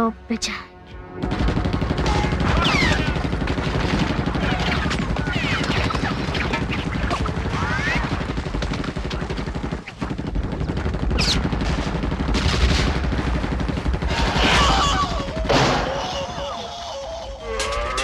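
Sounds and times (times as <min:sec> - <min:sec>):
machine-gun fire: 0:01.2 - 0:16.2.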